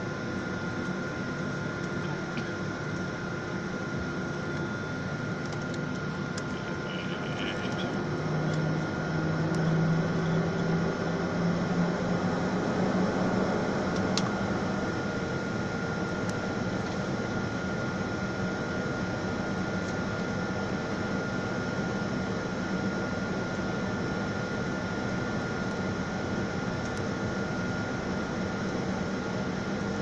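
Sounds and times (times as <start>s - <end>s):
airliner cabin hum and hiss: 0.0s - 30.0s
constant high whine: 0.0s - 30.0s.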